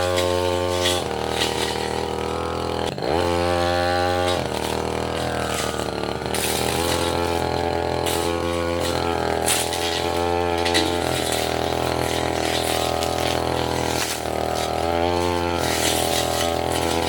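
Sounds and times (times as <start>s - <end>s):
blade striking wood: 0.0s - 17.0s
brush cutter engine running: 0.0s - 17.0s.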